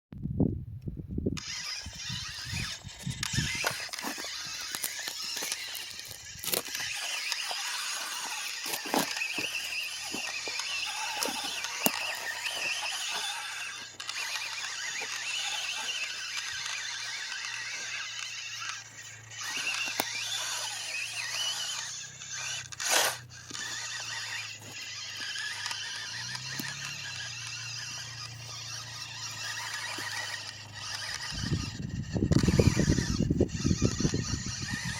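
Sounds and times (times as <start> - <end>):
dirt clicks and crackles: 1.4 - 34.9
rc truck motor whine: 1.4 - 34.9.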